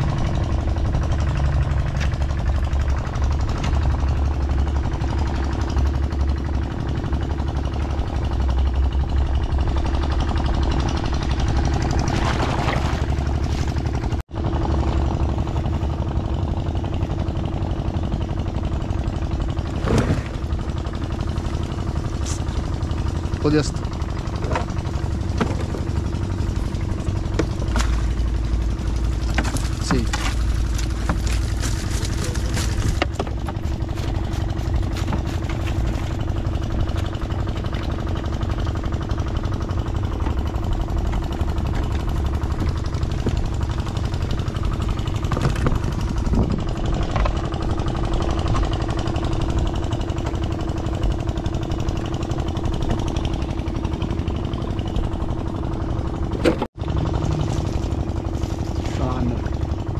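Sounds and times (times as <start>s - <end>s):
motor running with low rumble: 0.0s - 59.9s.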